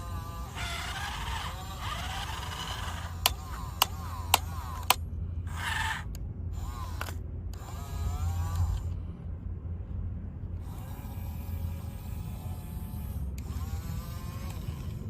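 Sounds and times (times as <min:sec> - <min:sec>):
toy excavator motors whirring: 0:00.0 - 0:09.1, 0:10.6 - 0:15.0.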